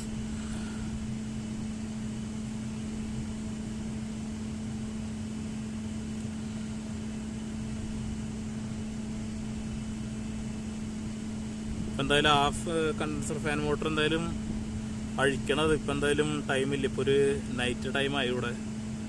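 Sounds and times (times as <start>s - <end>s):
chiller machinery humming: 0.0s - 19.0s.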